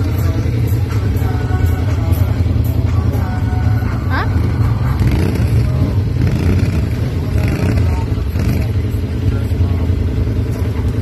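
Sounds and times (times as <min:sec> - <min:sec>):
atv engine rumbling: 0:00.0 - 0:11.0.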